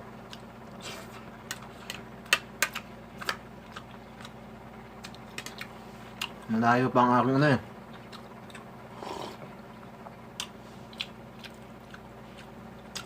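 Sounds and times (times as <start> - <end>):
person chewing food: 0.2 - 6.5, 7.8 - 13.0.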